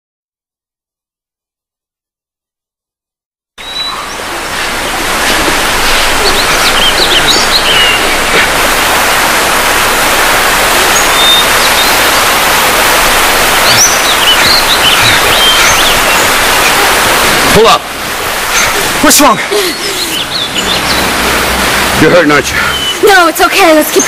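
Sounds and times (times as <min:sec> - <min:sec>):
birds chirping: 0:03.6 - 0:24.0
steady rushing noise: 0:03.7 - 0:24.0.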